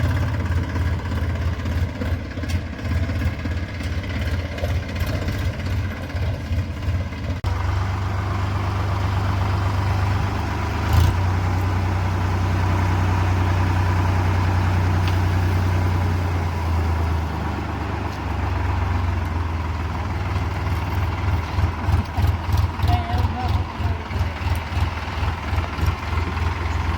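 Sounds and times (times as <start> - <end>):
tractor engine humming: 0.0 - 26.9.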